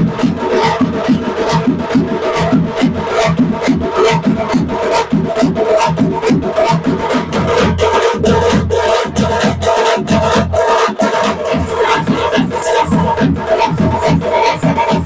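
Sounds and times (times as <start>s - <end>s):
fast drum beat: 0.0s - 15.0s.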